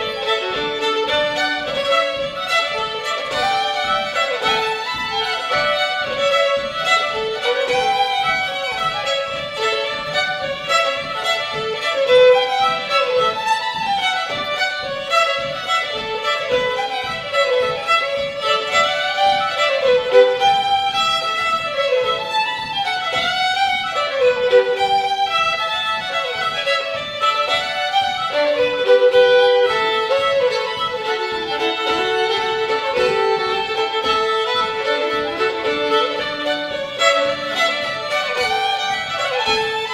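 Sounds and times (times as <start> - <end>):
two fiddles playing fast tune: 0.0 - 39.9.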